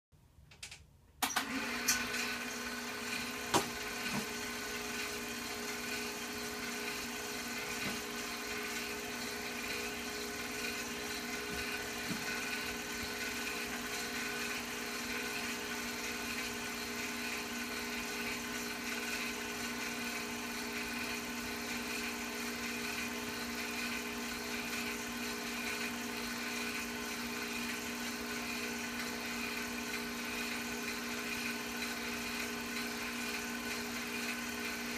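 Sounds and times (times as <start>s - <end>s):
film projector motor hum: 1.2s - 34.9s.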